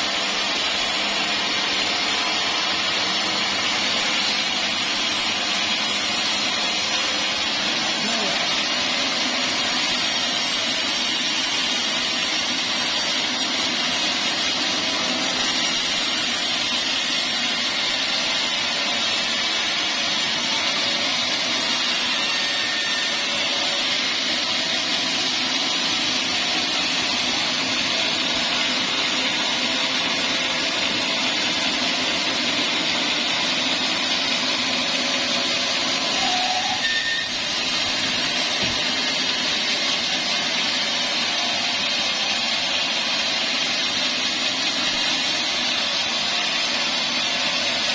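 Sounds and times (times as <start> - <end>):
band sawmill running: 0.0 - 47.9.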